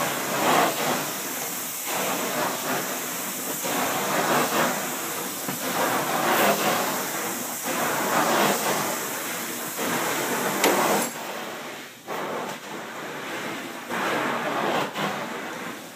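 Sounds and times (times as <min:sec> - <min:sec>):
carpet cleaner suction hiss: 0:00.0 - 0:15.9.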